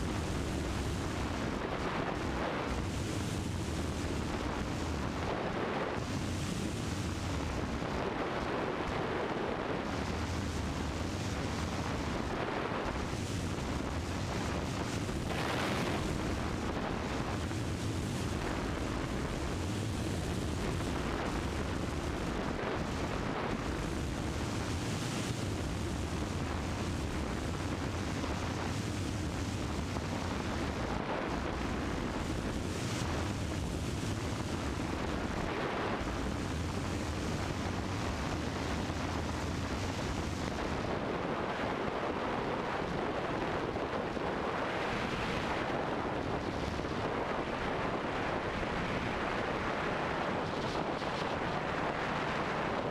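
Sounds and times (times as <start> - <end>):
airplane engine droning in cabin: 0.0 - 52.9.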